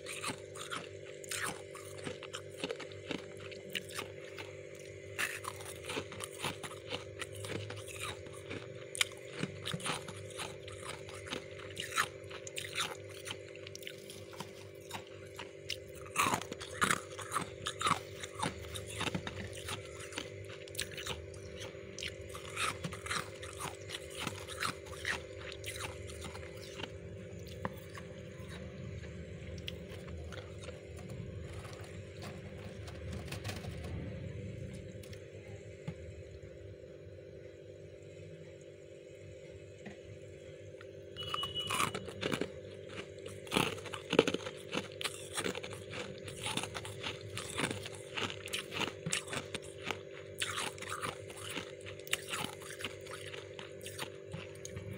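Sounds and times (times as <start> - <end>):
freezer frost crunching: 0.0 - 36.2, 41.2 - 54.9
steady hum: 0.0 - 54.9.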